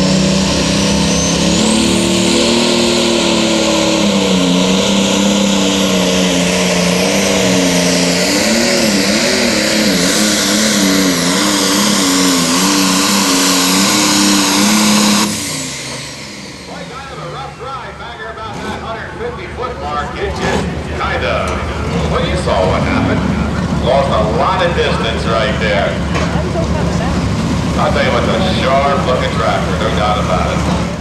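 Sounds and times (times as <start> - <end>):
diesel engine running under load: 0.0 - 31.0
high turbo whine: 0.0 - 31.0.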